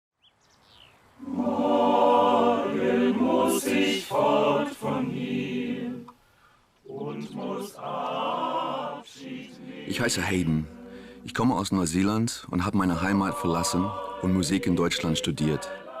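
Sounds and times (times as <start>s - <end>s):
choir singing unaccompanied: 1.2s - 6.2s, 6.8s - 11.6s, 12.6s - 16.0s.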